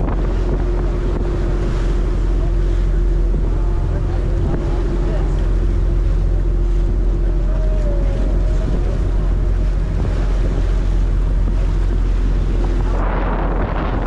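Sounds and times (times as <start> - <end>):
boat engine rumble: 0.0 - 14.0
water rushing past hull: 0.0 - 14.0
wind buffeting microphone: 0.0 - 14.0.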